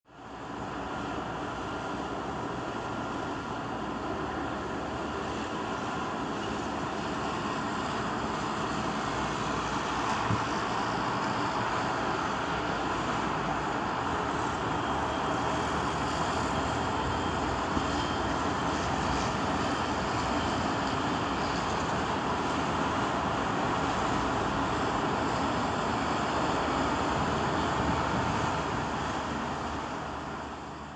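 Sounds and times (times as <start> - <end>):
road traffic noise: 0.1 - 30.9.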